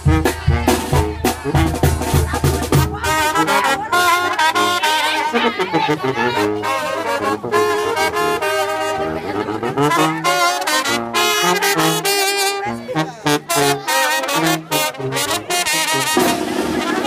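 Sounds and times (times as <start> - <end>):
brass band playing dance tune: 0.0 - 17.0
drum beats: 0.0 - 17.0.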